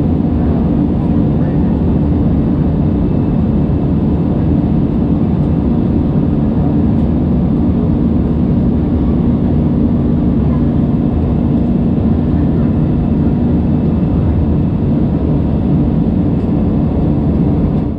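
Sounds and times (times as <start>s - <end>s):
jet engine cabin drone: 0.0s - 17.9s
steady hum tones: 0.0s - 17.9s.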